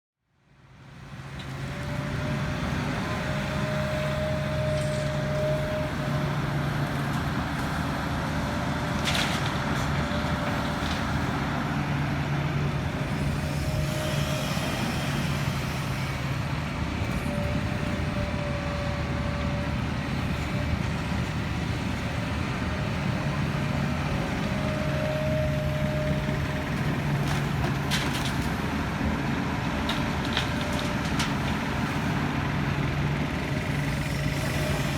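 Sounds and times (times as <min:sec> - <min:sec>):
heavy diesel machinery running: 0:00.6 - 0:34.9.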